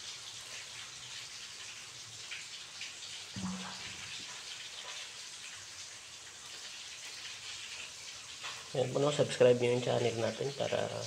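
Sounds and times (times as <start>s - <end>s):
food crackling and hissing on stove: 0.0s - 11.0s.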